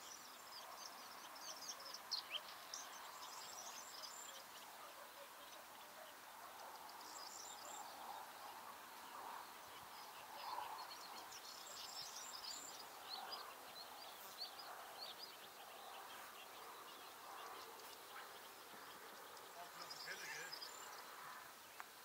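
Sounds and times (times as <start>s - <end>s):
distant birds chirping: 0.0s - 22.0s.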